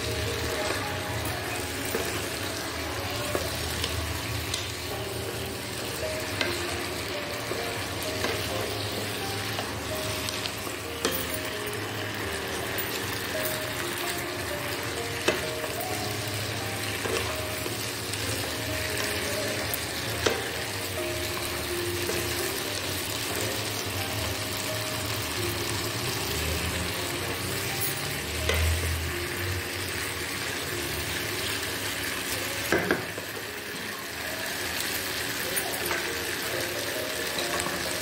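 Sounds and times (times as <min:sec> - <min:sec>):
chicken sizzling in sauce: 0:00.0 - 0:38.0.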